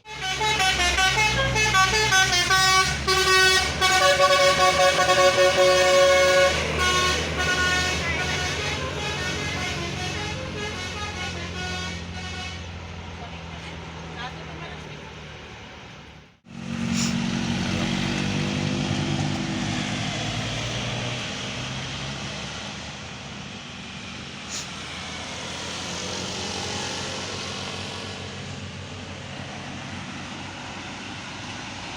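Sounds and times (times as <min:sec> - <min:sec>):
bus engine passing: 0:00.0 - 0:31.9
road noise: 0:00.0 - 0:31.9.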